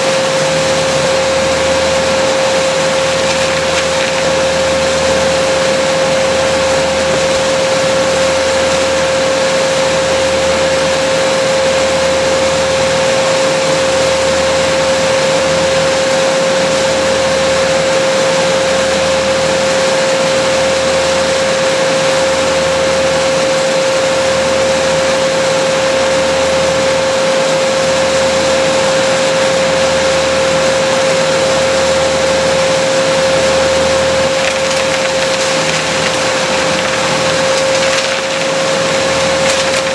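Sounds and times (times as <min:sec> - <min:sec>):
small engine machine whining: 0:00.0 - 0:39.9.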